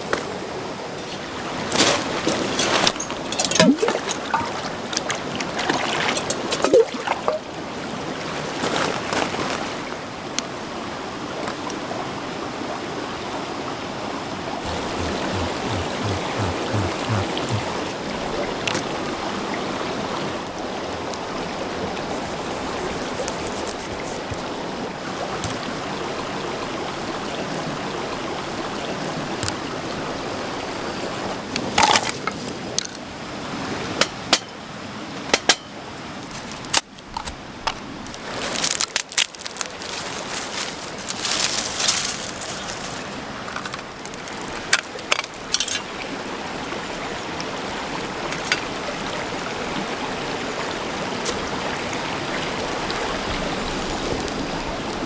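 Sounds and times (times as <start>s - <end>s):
rushing water: 0.8s - 10.2s, 14.6s - 33.7s, 38.0s - 55.0s.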